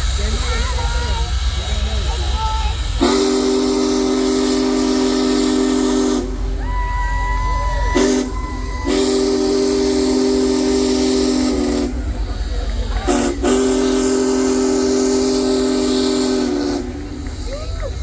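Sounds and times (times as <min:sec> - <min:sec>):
steam hissing: 0:00.0 - 0:18.0
steam locomotive whistle blowing: 0:02.4 - 0:18.0.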